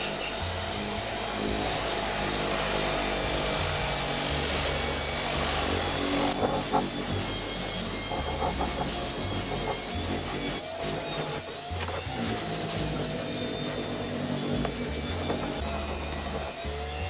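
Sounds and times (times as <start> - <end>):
orbital sander hissing on plastic: 0.0 - 17.0.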